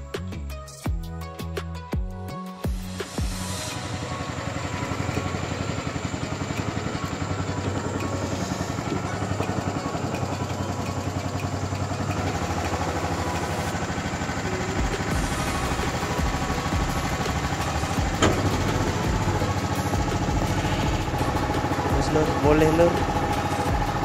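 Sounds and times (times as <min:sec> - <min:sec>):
small engine running: 0:03.0 - 0:24.0.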